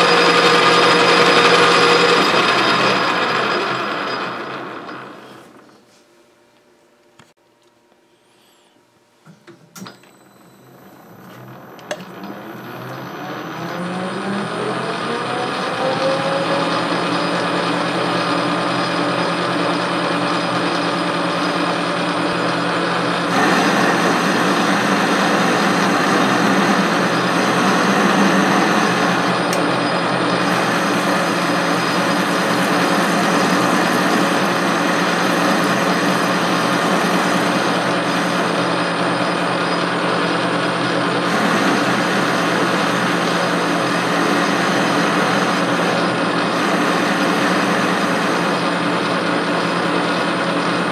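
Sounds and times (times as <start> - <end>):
lathe cutting noise: 0.0 - 5.4, 11.4 - 50.9
lathe motor and gear whine: 0.0 - 5.9, 9.8 - 50.9.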